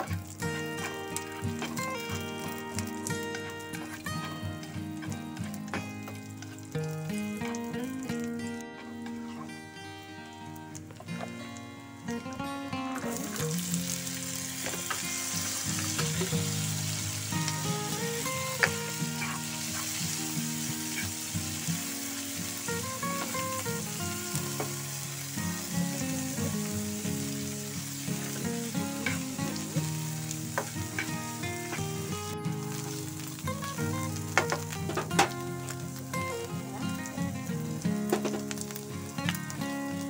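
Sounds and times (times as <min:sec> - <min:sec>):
background music with simple tune: 0:00.0 - 0:40.0
food sizzling in hot oil: 0:00.0 - 0:40.0.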